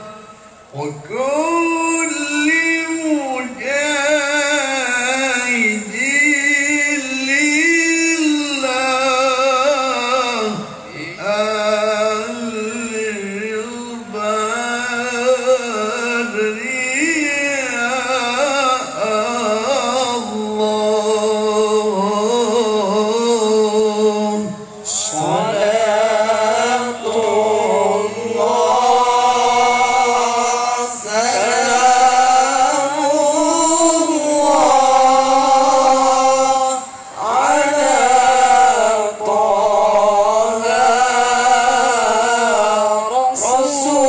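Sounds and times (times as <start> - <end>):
man chanting through pa system: 0.0 - 44.0.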